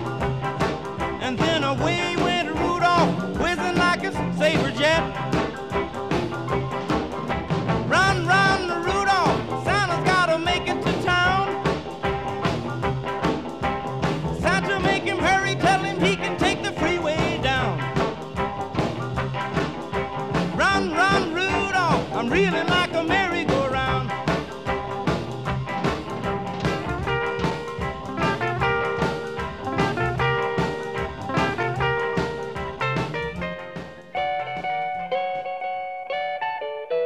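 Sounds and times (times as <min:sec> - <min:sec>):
swing-style music: 0:00.0 - 0:37.0.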